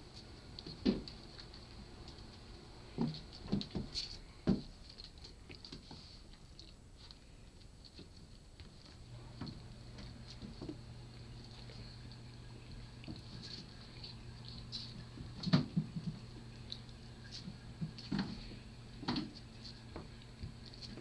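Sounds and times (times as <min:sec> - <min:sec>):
kitten paw patter: 0:00.1 - 0:21.0.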